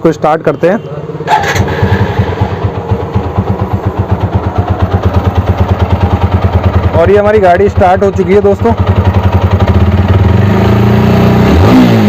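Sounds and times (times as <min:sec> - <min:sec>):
motorcycle engine idling: 0:01.0 - 0:10.9.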